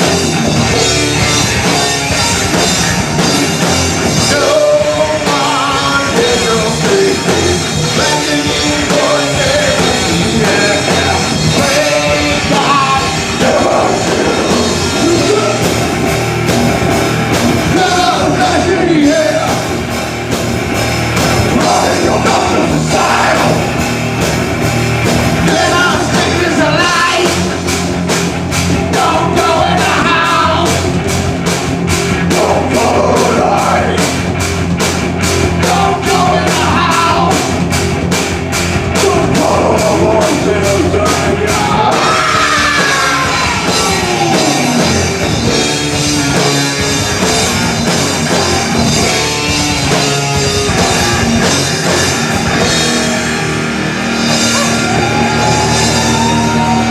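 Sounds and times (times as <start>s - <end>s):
live rock band with vocals: 0.0s - 56.9s.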